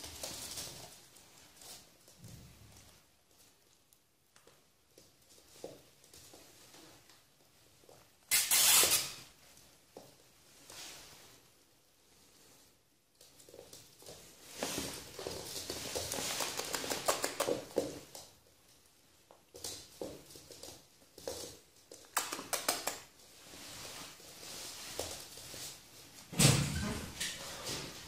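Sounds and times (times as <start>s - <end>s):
puppy scuffling rustling: 0.0s - 26.4s.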